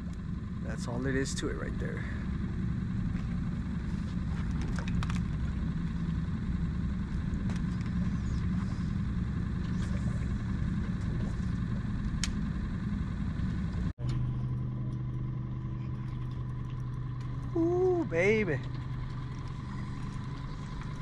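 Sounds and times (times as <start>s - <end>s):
motor idling: 0.0s - 21.0s.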